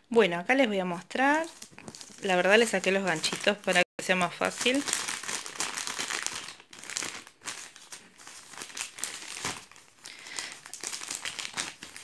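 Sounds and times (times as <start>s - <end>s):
plastic bags crinkling: 1.3s - 12.0s.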